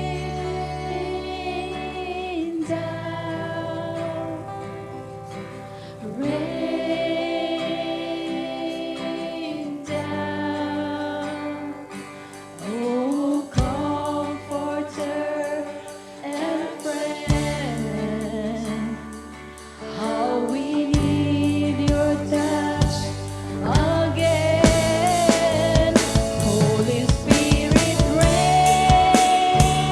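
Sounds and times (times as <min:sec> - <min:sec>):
voices singing slow melody: 0:00.0 - 0:29.9.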